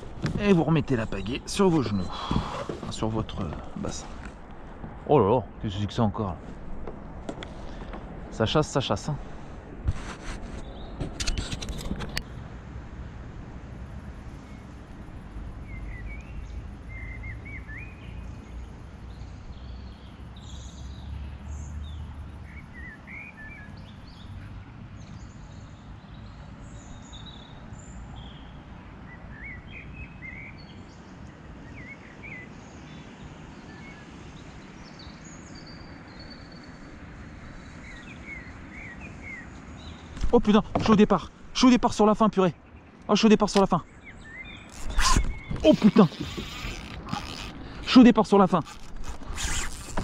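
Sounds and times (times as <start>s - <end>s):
small birds chirping: 0.0s - 6.4s, 10.4s - 12.4s, 14.4s - 50.0s.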